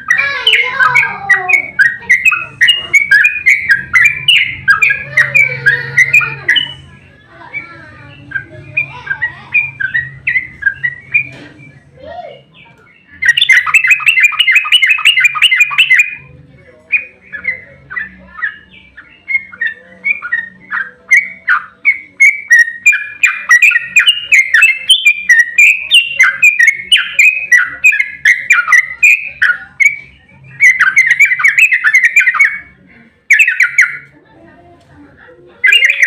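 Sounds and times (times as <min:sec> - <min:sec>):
bird singing rapid chirping song: 0:00.0 - 0:34.1, 0:35.6 - 0:36.0.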